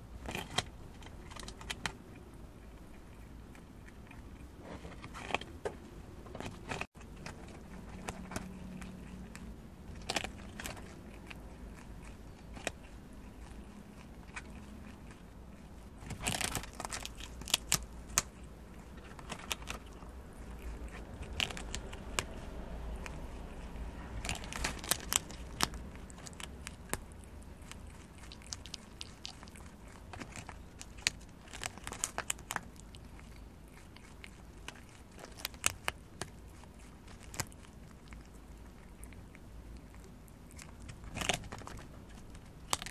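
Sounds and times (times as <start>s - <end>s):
prairie dog chewing corn husk: 0.0s - 42.9s.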